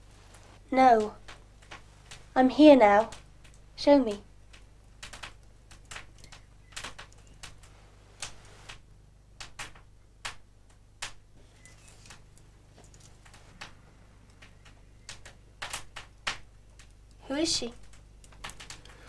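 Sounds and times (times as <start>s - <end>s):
low steady hum: 0.0s - 19.0s
faint clicks and ticks: 0.3s - 19.0s.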